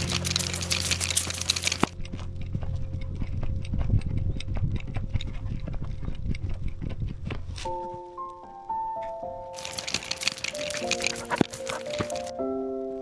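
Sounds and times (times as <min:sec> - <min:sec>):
footsteps on dirt trail: 0:00.0 - 0:12.3.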